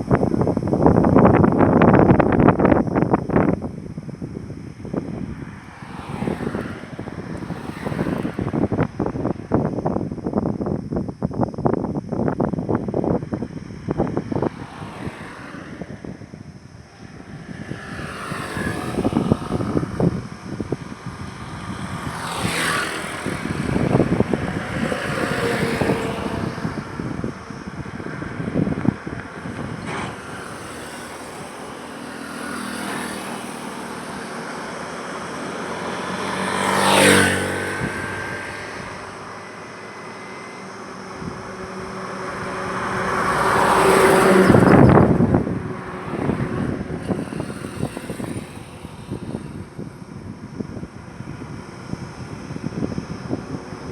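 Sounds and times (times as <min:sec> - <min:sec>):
vehicles passing on highway: 0:00.0 - 0:53.9
wind gusts: 0:00.0 - 0:53.9.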